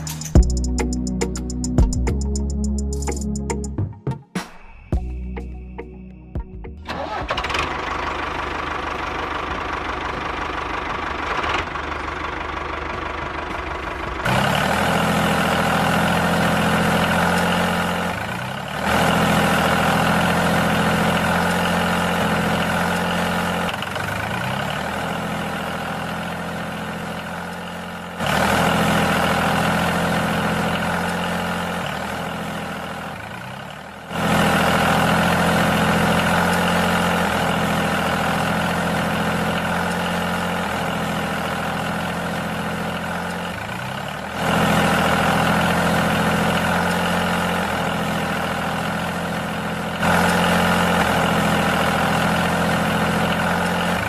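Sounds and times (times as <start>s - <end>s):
tractor engine idling and revving: 0.0s - 54.0s.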